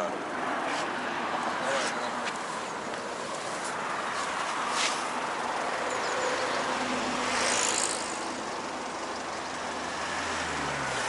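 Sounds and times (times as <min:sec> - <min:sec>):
road traffic passing: 0:00.0 - 0:11.0
vehicle passing close: 0:00.5 - 0:11.0.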